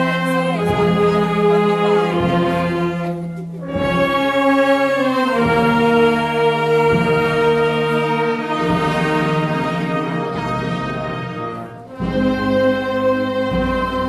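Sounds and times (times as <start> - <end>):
wind band playing funeral march: 0.0 - 14.0.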